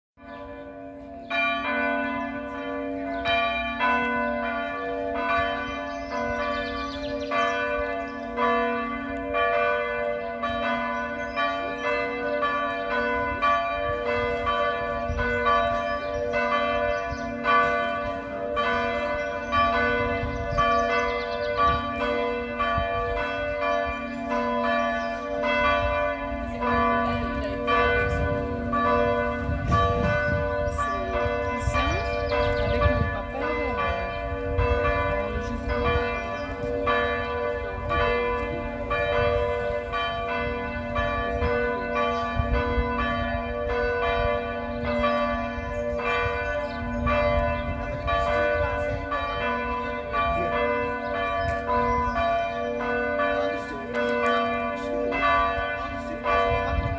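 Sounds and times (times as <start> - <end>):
church bells ringing: 0.2 - 56.9.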